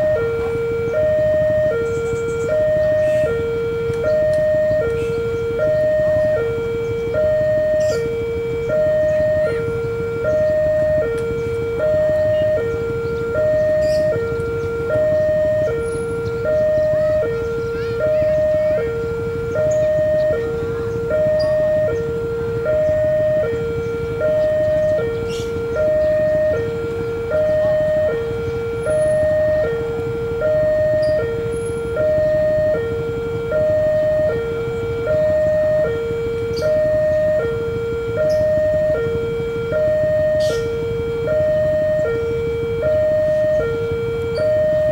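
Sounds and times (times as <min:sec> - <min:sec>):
two-tone crossing warning siren: 0:00.0 - 0:44.9.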